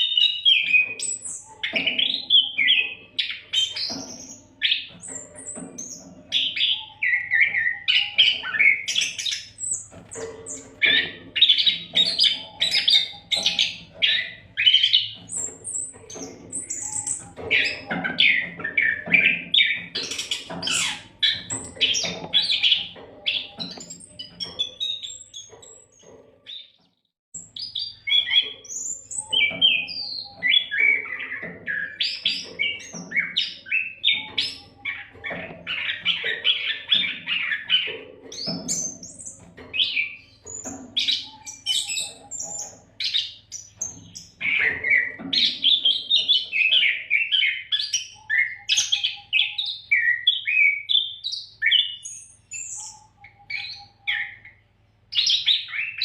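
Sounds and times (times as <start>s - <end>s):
songbird chirping and whistling: 0.0s - 26.8s, 27.4s - 56.0s.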